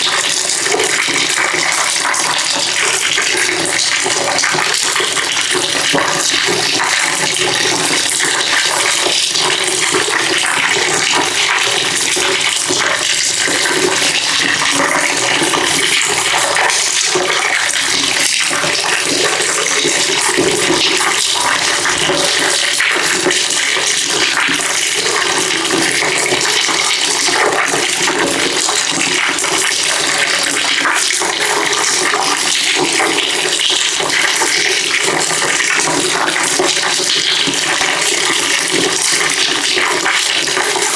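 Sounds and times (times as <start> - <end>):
water pouring into a bucket: 0.0 - 40.9.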